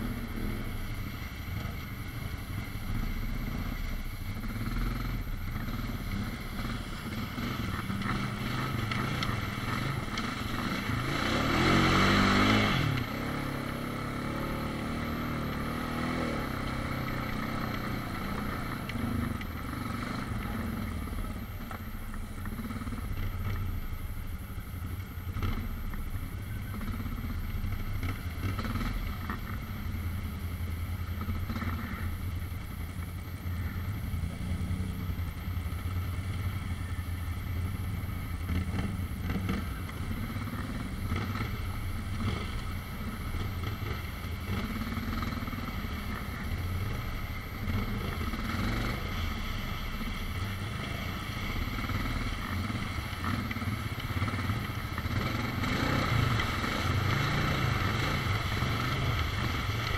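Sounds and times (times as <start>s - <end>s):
atv engine drone: 0.0s - 59.9s.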